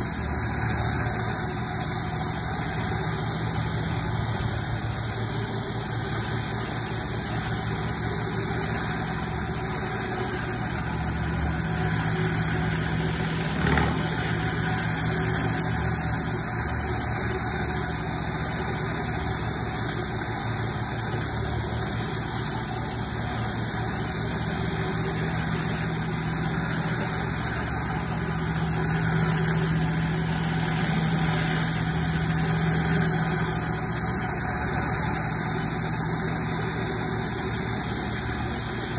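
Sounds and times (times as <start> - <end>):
pressure washer spraying water: 0.0 - 38.9.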